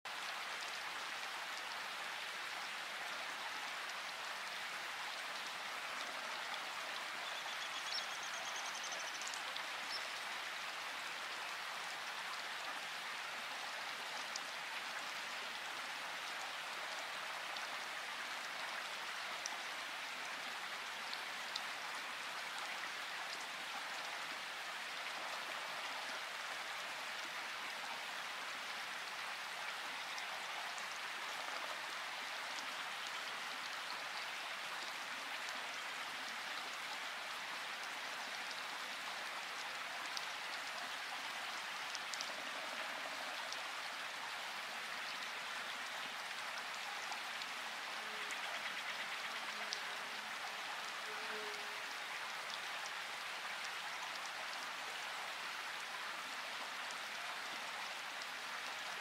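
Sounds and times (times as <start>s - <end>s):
rain-like hiss: 0.0s - 59.0s.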